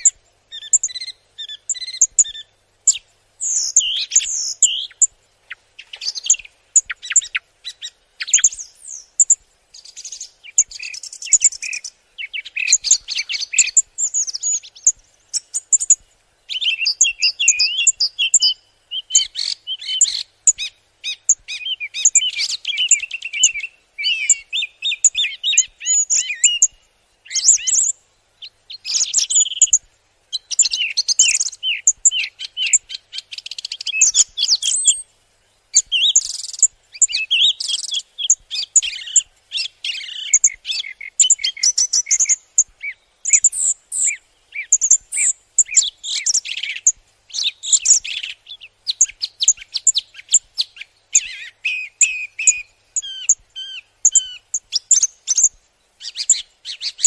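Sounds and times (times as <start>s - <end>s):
songbird twittering song: 0.0s - 57.0s.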